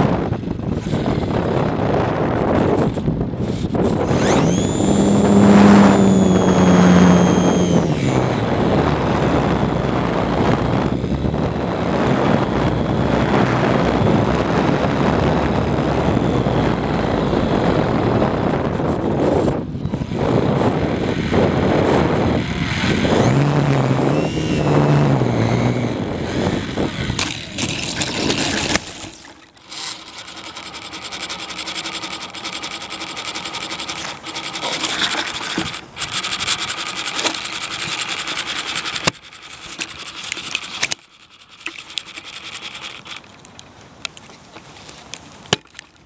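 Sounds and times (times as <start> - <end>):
model plane motor and propeller: 0.0 - 46.0.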